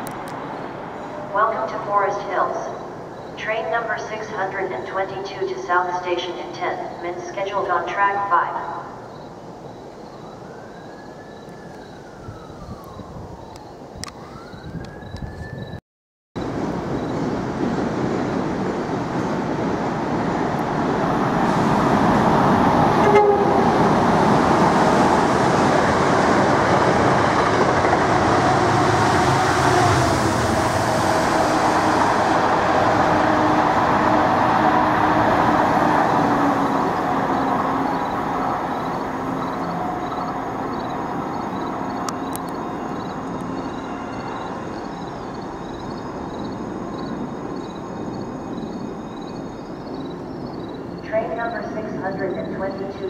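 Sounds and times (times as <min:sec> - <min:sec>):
train rumbling on rails: 0:00.0 - 0:15.8, 0:16.4 - 0:53.0.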